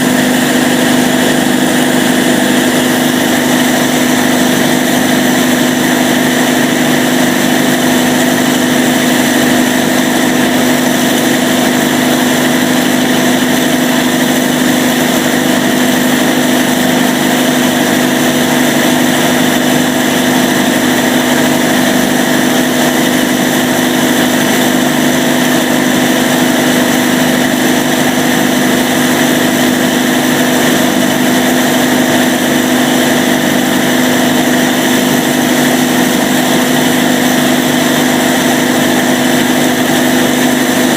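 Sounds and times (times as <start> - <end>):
diesel generator droning: 0.0 - 40.9.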